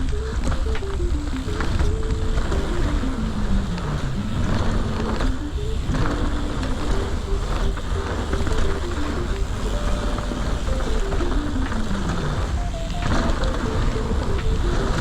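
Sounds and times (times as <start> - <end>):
background music: 0.0 - 15.0
bike tyre rumble on trail: 0.0 - 15.0
wind: 0.0 - 15.0.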